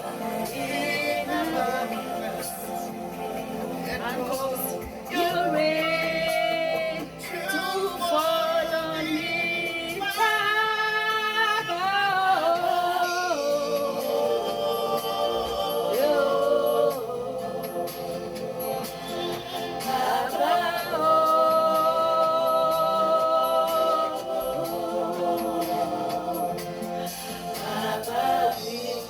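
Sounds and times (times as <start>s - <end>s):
woman singing gospel: 0.0s - 3.0s, 3.6s - 26.8s.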